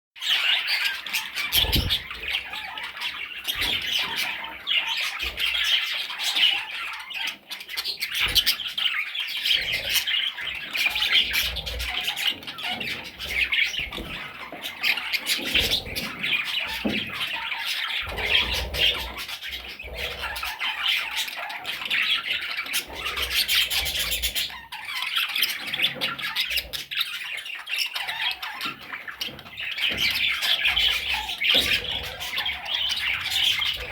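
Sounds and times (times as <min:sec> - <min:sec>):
parrot chicks squawking and chirping: 0:00.2 - 0:33.9.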